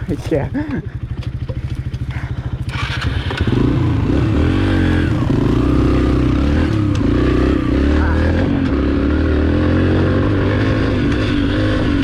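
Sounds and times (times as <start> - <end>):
pit bike engine revving: 0.3 - 12.0.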